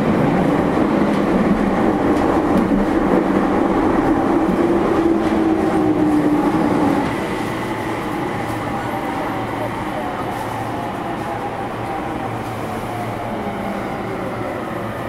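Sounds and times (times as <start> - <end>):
train wheel and track noise: 0.0 - 15.0.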